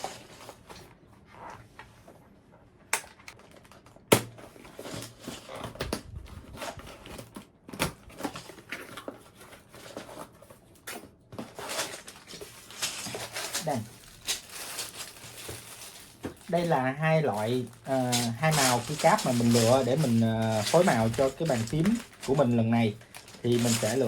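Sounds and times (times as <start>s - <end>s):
packaging rustling: 3.2s - 24.0s.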